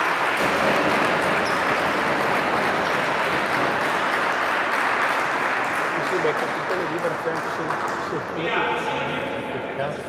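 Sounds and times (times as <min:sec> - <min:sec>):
sports hall rushing din: 0:00.0 - 0:10.0.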